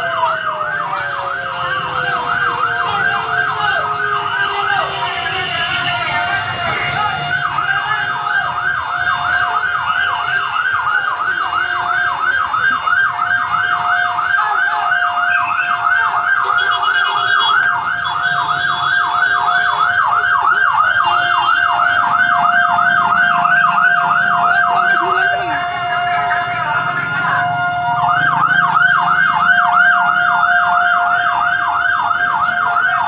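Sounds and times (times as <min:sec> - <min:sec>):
fire truck siren yelping: 0:00.0 - 0:33.0.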